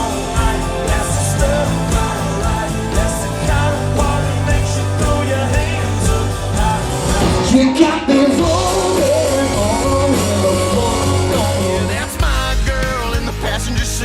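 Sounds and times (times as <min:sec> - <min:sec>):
song with singing over band: 0:00.0 - 0:14.0.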